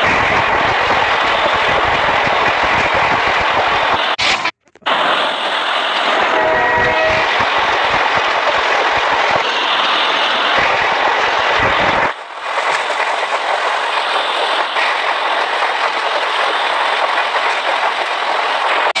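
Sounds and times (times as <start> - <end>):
train rushing along track: 0.0 - 19.0.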